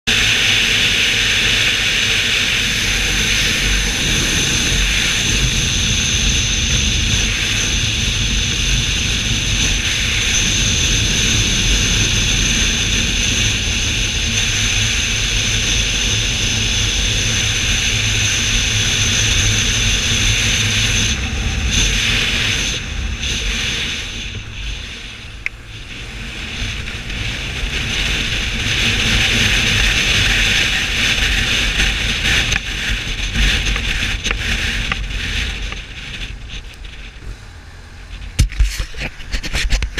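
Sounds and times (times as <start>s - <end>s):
motorcycle engine: 0.0s - 39.9s
road noise: 0.0s - 39.9s
wind rush over microphone: 0.1s - 39.9s.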